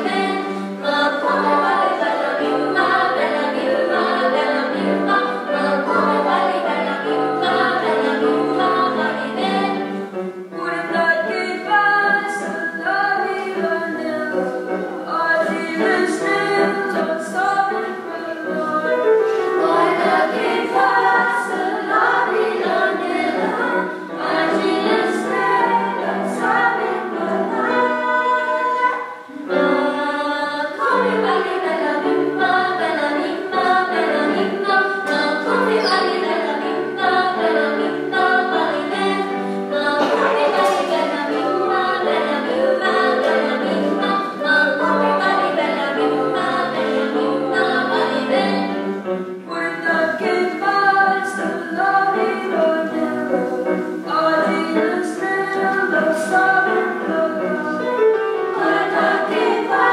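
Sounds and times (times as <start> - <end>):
vocal ensemble singing in parts: 0.0 - 59.9.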